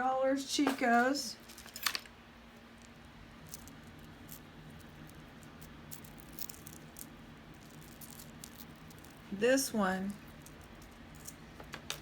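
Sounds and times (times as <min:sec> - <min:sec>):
low electrical hum: 0:00.0 - 0:12.0
jewelry clicking and rattling: 0:01.4 - 0:12.0.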